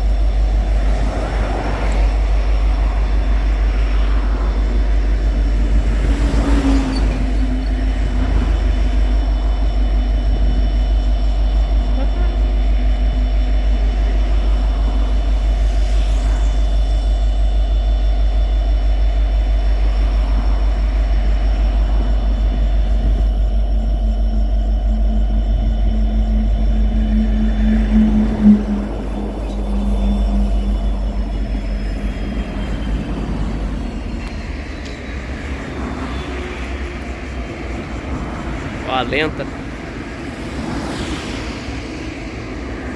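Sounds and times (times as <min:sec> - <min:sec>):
faint high whine: 0:00.0 - 0:42.9
locomotive diesel engine rumbling: 0:00.0 - 0:42.9.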